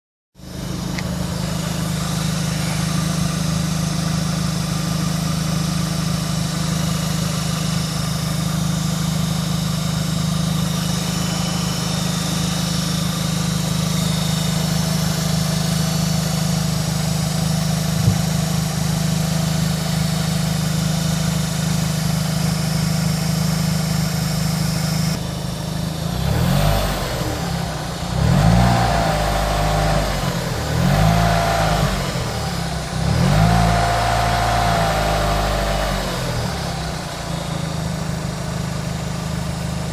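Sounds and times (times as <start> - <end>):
car engine idling and revving: 0.4 - 39.9
odd engine noise: 0.4 - 39.9.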